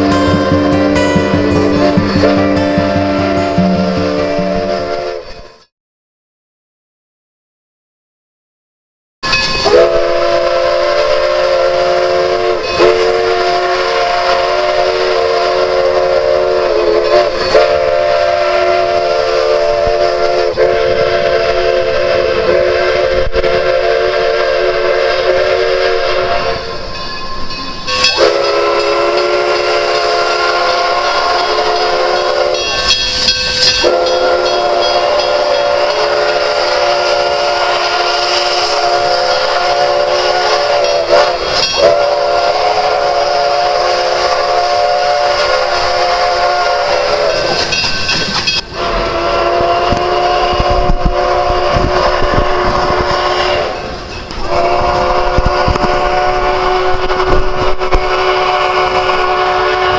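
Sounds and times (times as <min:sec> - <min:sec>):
steam locomotive whistle: 0:00.0 - 0:05.7, 0:09.2 - 0:59.9.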